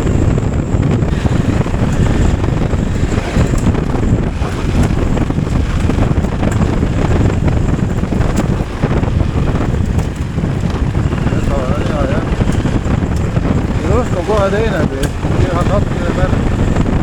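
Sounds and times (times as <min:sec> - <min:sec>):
motorcycle engine and tyres: 0:00.0 - 0:17.0
wind buffeting microphone: 0:00.0 - 0:17.0.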